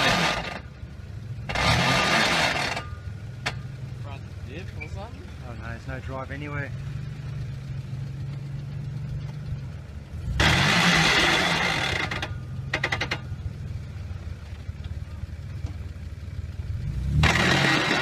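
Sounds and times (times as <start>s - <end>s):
suv engine running and revving: 0.0s - 18.0s.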